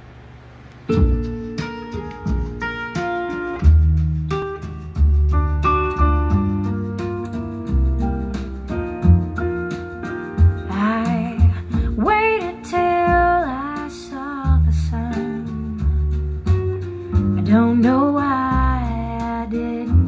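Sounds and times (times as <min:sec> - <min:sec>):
song through speakers: 0:00.9 - 0:20.0.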